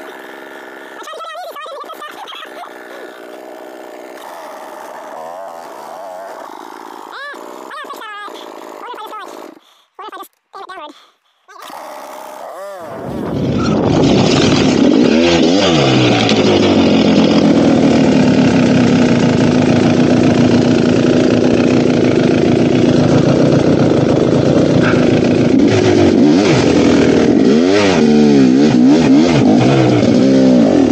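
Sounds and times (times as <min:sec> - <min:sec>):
dirt bike engine revving: 0:00.0 - 0:09.6, 0:11.6 - 0:30.9.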